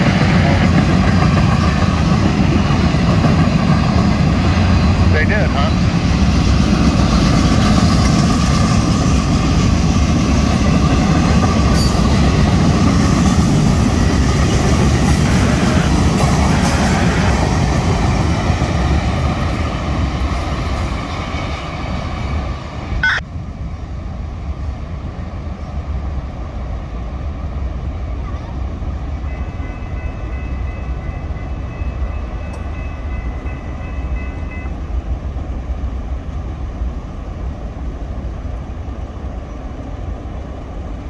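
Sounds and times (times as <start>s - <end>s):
freight train wheels rumbling on rail: 0.0s - 41.0s.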